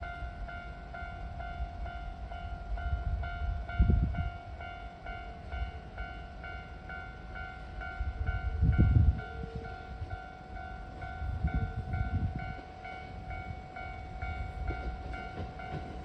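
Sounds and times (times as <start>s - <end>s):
level-crossing alarm ringing: 0.0s - 16.0s
train rumbling: 0.0s - 16.0s.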